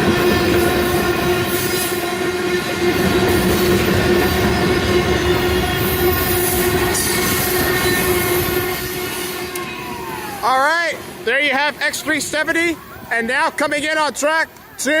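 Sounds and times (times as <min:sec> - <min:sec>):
freight train rumbling past: 0:00.0 - 0:14.2.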